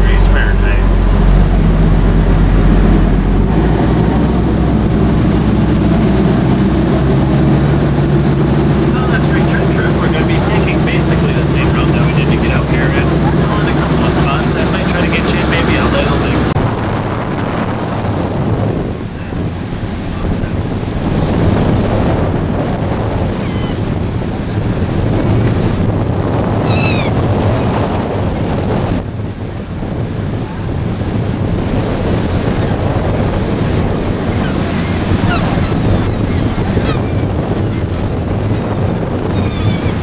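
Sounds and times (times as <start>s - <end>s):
water rushing past boat: 0.0s - 40.0s
wind buffeting microphone: 0.0s - 40.0s.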